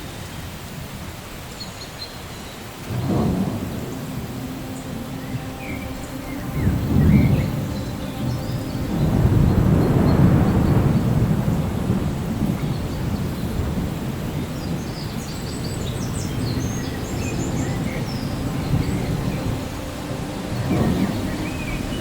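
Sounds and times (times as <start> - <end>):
steady rain: 0.0 - 22.0
thunder rumbling: 2.7 - 22.0.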